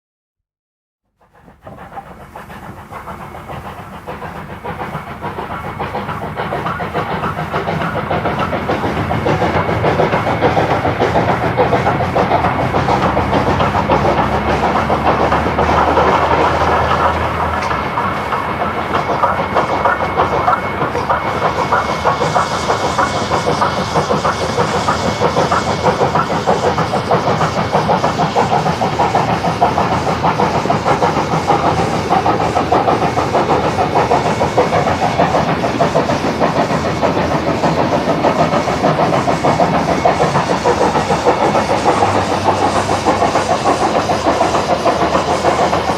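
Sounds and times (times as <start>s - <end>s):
steam locomotive exhaust beats: 1.1s - 45.9s.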